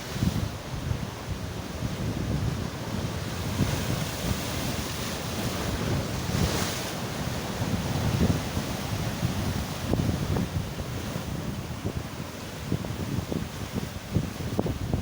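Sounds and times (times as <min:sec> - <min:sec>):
sea waves breaking on shore: 0:00.0 - 0:15.0
wind buffeting microphone: 0:00.0 - 0:15.0.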